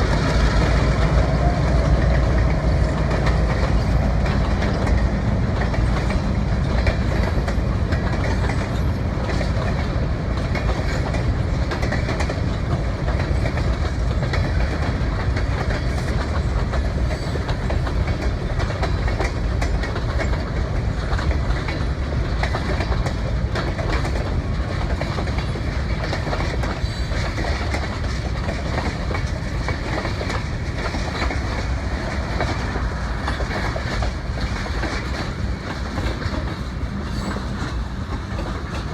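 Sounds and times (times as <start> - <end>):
train rumble: 0.0 - 38.9
train wheels clicking on rails: 0.0 - 38.9.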